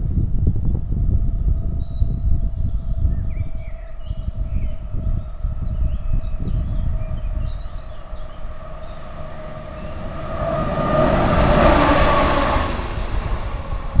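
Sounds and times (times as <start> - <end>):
diesel locomotive passing: 0.1 - 14.0.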